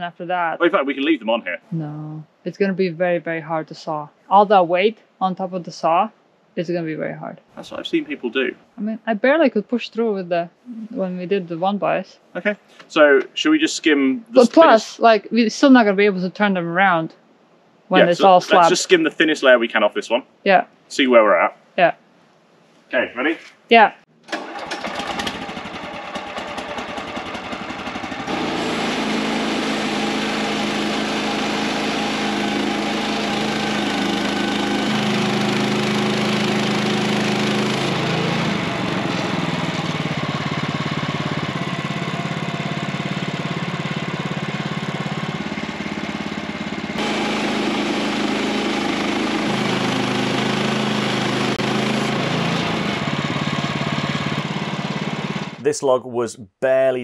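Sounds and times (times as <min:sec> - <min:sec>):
gasoline engine running: 0:00.0 - 0:06.1, 0:06.8 - 0:17.0, 0:17.9 - 0:19.7, 0:24.3 - 0:55.8.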